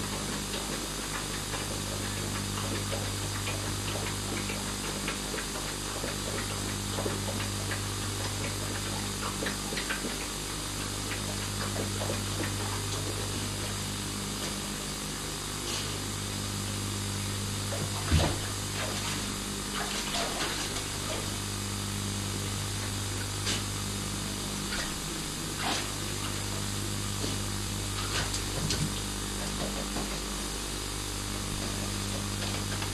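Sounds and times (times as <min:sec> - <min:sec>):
dog splashing in a tub: 0:00.0 - 0:14.6, 0:17.4 - 0:22.0, 0:22.6 - 0:30.4.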